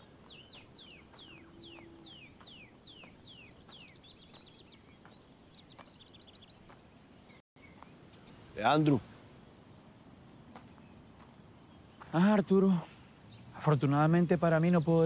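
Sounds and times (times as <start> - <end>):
faint insect hiss: 0.0 - 15.0.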